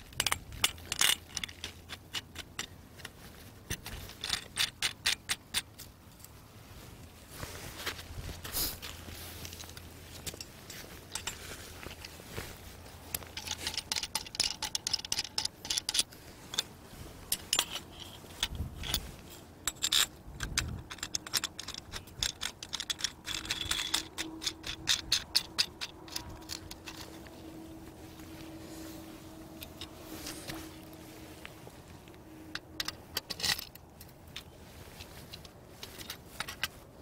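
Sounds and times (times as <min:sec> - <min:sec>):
metal parts clicking and rattling: 0:00.0 - 0:06.3, 0:09.1 - 0:31.0, 0:31.9 - 0:37.0.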